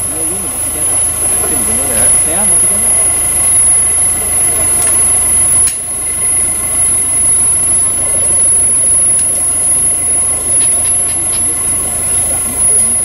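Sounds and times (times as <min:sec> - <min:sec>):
thin high whine: 0:00.0 - 0:13.0
vehicle engine droning: 0:00.0 - 0:13.0.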